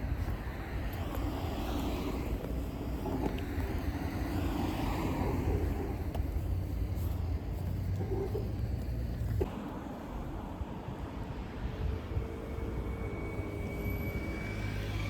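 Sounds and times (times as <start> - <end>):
road noise hiss: 0.0 - 15.0
vehicle low rumble: 0.0 - 15.0.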